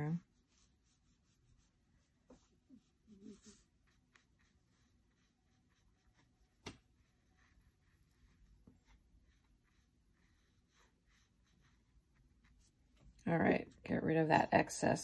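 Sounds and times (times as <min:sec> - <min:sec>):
brush strokes on paper: 0:00.0 - 0:15.0.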